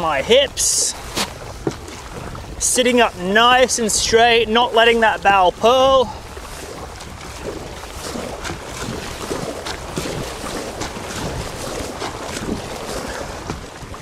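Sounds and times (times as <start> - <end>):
paddle splashes in water: 0.0 - 14.0
water washing along hull: 0.0 - 14.0
wind buffeting microphone: 0.0 - 14.0.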